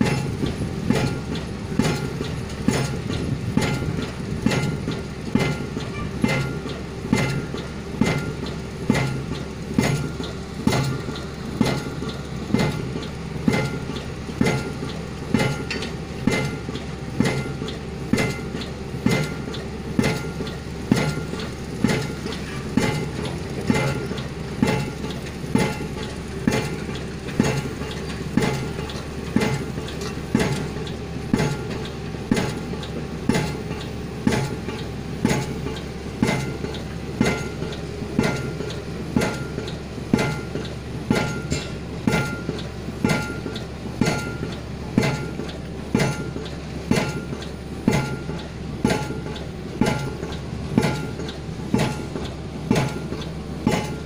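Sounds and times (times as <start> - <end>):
pile-driving hammer blows: 0.0 - 54.0.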